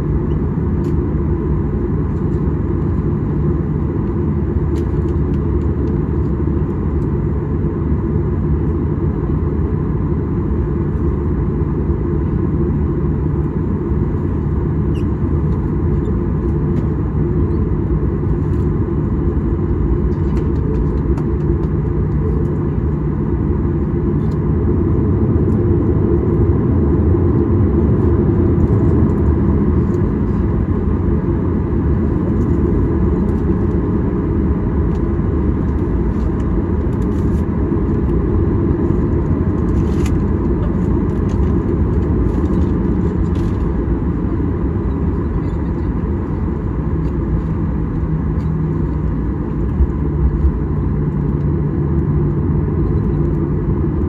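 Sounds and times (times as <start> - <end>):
faint hum: 0.0 - 54.0
jet engines low rumble: 0.0 - 54.0.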